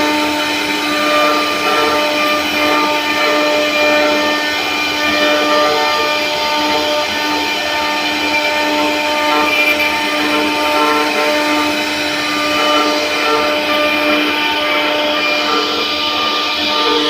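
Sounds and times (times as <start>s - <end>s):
router spindle whining: 0.0s - 17.0s
wood cutting hiss: 0.1s - 17.0s.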